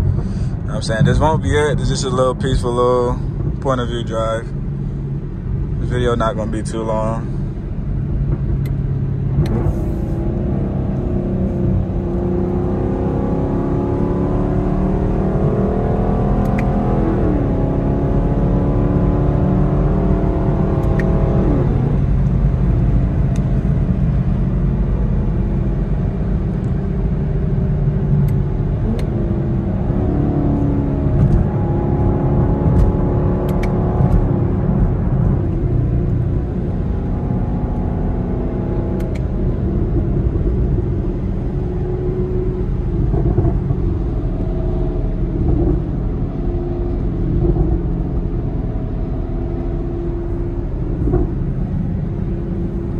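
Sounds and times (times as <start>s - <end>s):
car engine and tyre drone: 0.0s - 52.9s.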